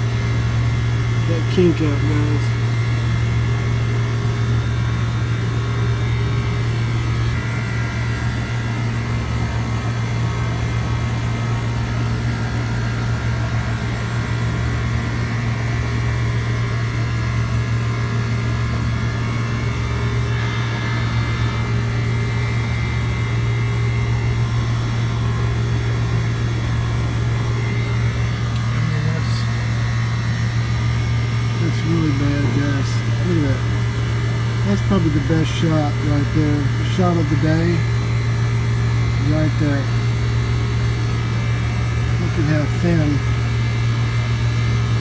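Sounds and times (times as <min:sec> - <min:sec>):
compressor hum: 0:00.0 - 0:45.0
condenser fan rushing: 0:00.0 - 0:45.0.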